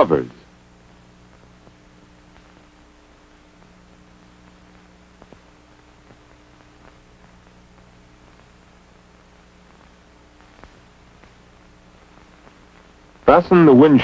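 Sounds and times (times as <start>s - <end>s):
low hum: 0.0s - 13.9s
film soundtrack hiss: 0.0s - 14.0s
faint clicks: 0.3s - 13.3s.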